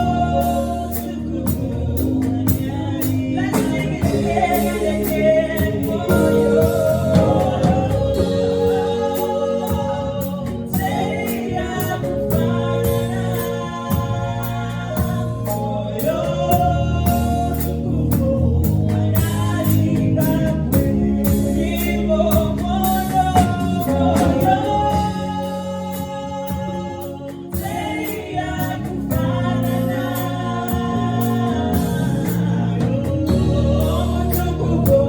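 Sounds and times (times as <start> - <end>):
band with steady drum beat: 0.0 - 35.0
voices singing gospel: 0.0 - 35.0.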